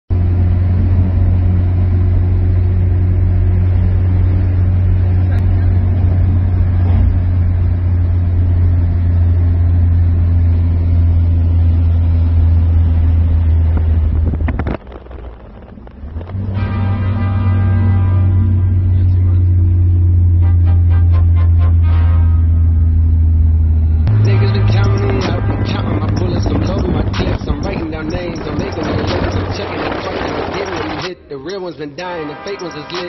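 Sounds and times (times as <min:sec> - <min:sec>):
car engine droning: 0:00.1 - 0:31.3.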